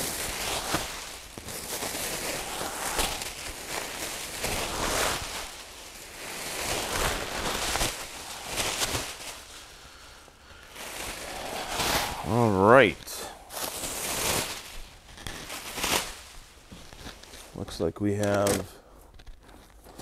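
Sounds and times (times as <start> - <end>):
bubble wrap rustling and crinkling: 0.0 - 20.0.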